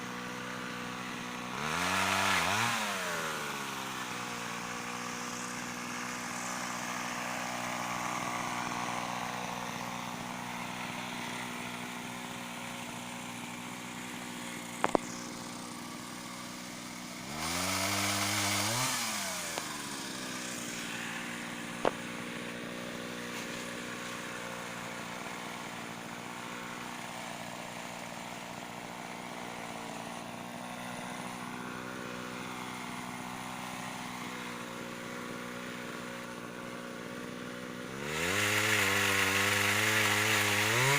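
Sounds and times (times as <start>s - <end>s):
two-stroke pole saw engine: 0.0s - 40.9s.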